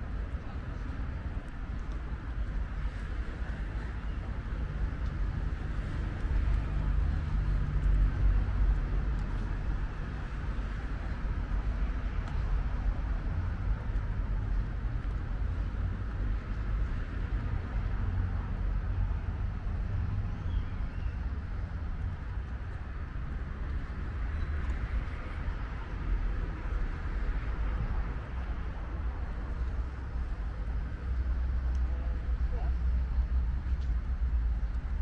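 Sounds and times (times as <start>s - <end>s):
road traffic rumble and hiss: 0.0s - 35.0s.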